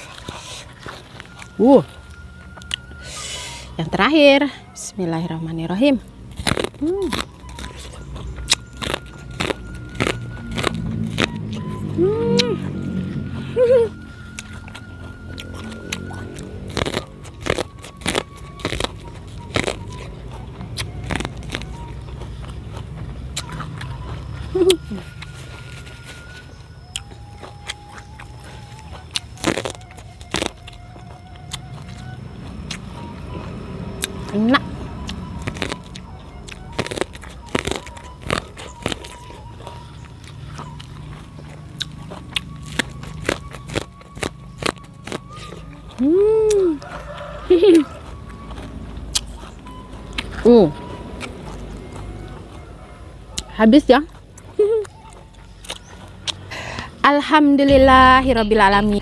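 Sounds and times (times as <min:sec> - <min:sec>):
chewing: 0:00.0 - 0:04.0, 0:04.6 - 0:57.0
low steady hum: 0:00.0 - 0:59.0
crunching bites of corn: 0:06.3 - 0:13.0, 0:14.2 - 0:34.3, 0:35.0 - 0:52.6, 0:53.3 - 0:56.6.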